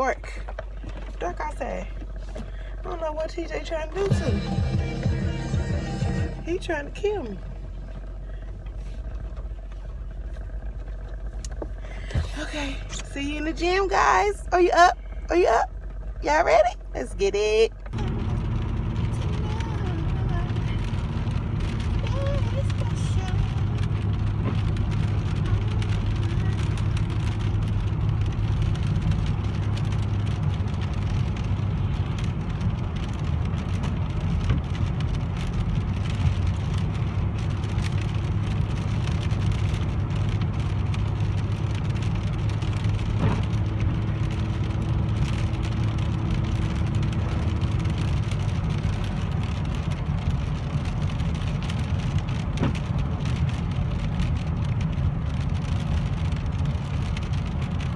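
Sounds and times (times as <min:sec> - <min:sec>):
engine and road hum: 0:00.0 - 0:57.9
rain on car: 0:00.0 - 0:57.9.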